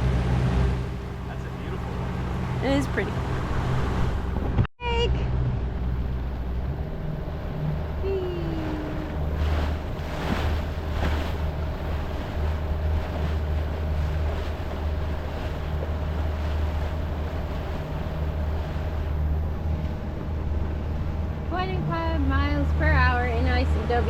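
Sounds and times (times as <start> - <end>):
motorboat engine drone: 0.0 - 24.0
water around boat hull: 0.0 - 24.0.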